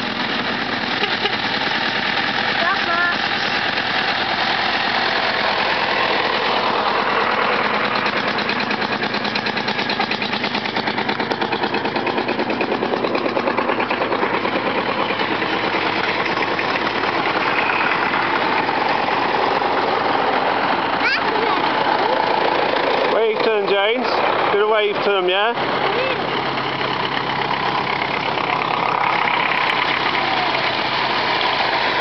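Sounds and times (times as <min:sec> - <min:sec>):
tractor engines chugging past: 0:00.0 - 0:32.0.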